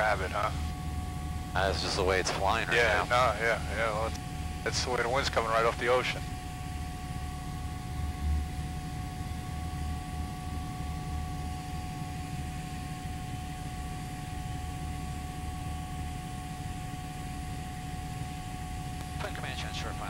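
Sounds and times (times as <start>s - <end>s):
aircraft engines and propellers drone: 0.0s - 20.0s.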